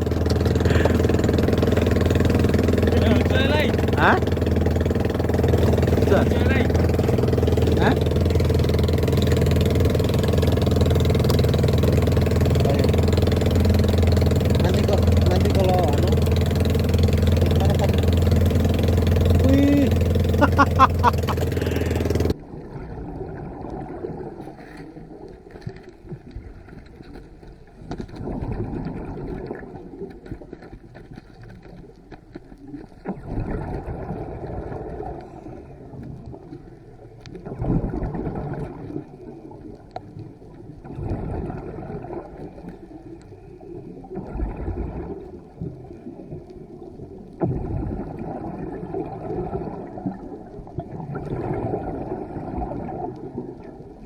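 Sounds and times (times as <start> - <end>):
gurgling exhaled bubbles: 0.0 - 32.0, 32.6 - 54.0
muffled underwater sound: 0.0 - 54.0.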